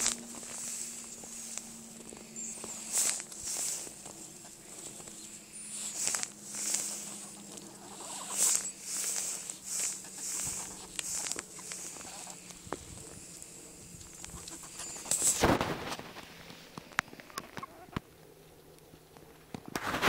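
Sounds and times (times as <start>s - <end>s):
footsteps crunching through snow: 0.0s - 16.8s.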